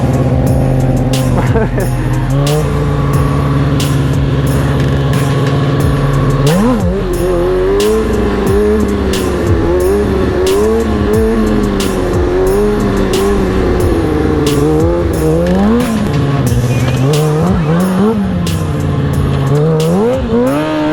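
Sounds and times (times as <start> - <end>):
motorcycle engine revving: 0.0 - 20.9
music with steady beat: 0.0 - 20.9.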